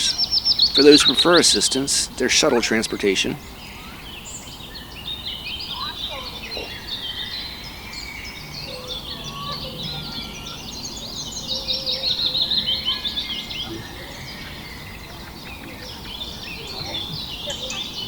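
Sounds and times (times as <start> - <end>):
birds chirping and singing: 0.0 - 18.0
fast repeated bird trill: 0.0 - 18.0.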